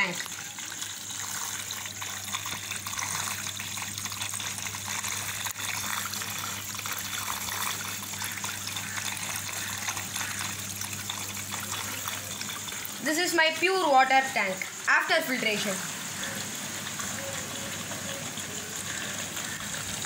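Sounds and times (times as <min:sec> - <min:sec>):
water pump humming: 0:00.0 - 0:20.0
water stream splashing and gushing: 0:00.0 - 0:20.0.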